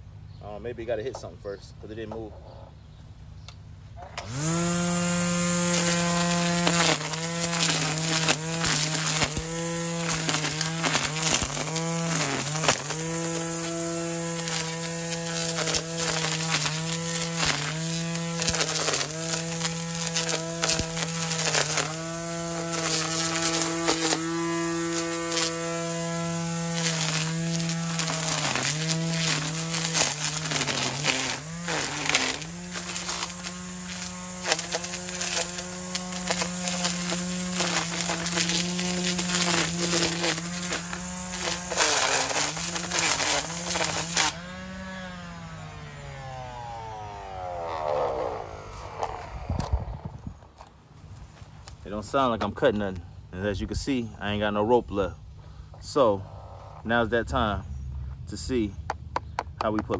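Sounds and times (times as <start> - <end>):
string trimmer motor whine: 3.9 - 52.4.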